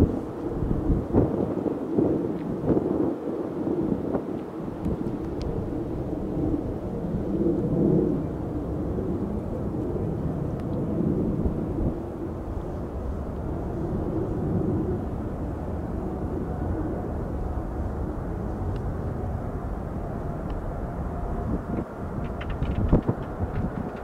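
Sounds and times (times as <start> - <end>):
jet engines rumbling on approach: 0.0 - 24.0
wind buffeting microphone: 0.0 - 24.0.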